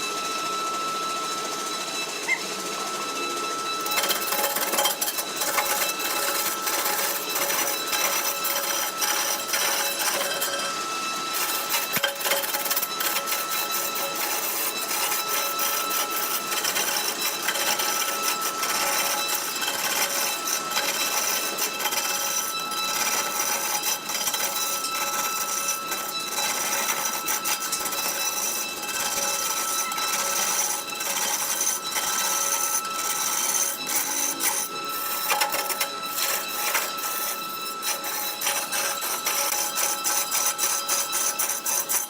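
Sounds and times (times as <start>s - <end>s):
lathe whine: 0.0s - 42.0s
tool scraping spinning wood: 1.5s - 42.0s.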